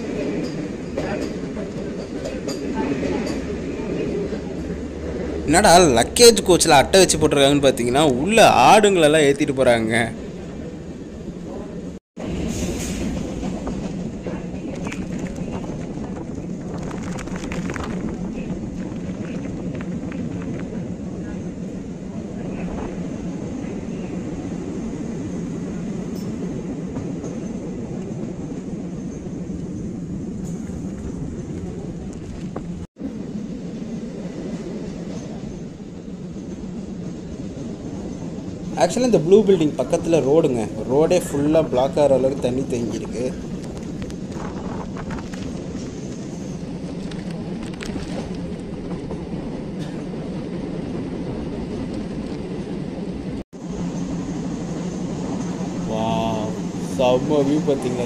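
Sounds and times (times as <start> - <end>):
train coach rumbling on track: 0.0 - 58.0.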